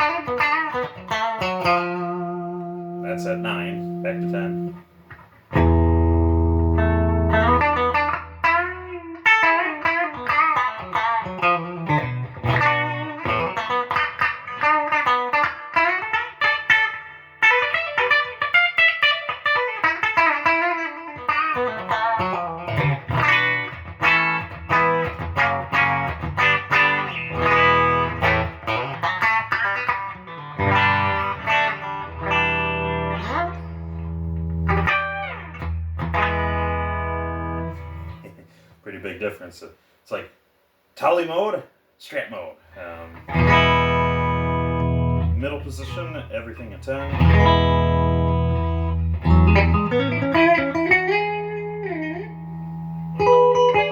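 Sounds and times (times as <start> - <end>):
electric guitar notes and chords: 0.0 - 38.4, 43.1 - 46.2, 46.9 - 53.9.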